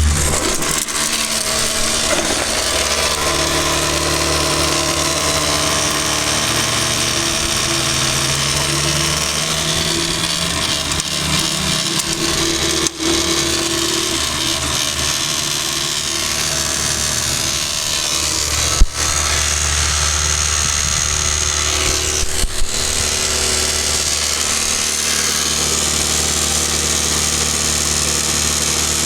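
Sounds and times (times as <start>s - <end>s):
drywasher motor hum and rattle: 0.0s - 29.0s.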